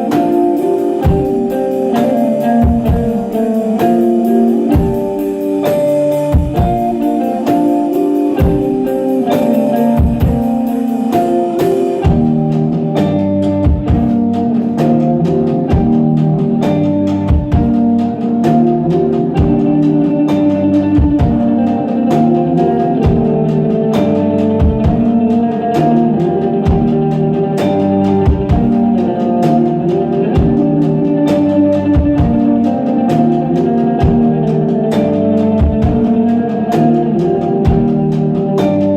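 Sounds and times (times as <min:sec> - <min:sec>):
drum kit: 0:00.0 - 0:38.9
electric guitar melody: 0:00.0 - 0:38.9.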